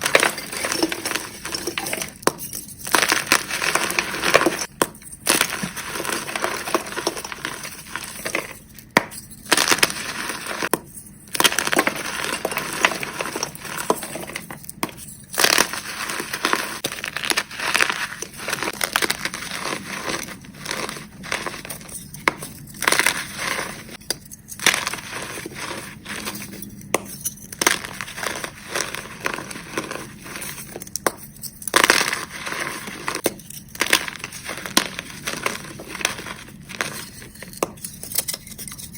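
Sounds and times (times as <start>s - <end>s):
chalk blocks crunching: 0.0s - 38.9s.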